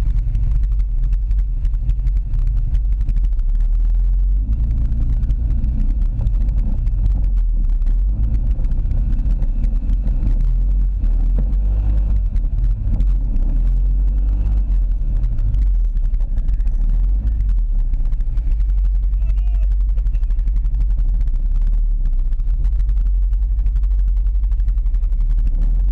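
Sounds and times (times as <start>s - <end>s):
atv engine running: 0.0s - 25.9s.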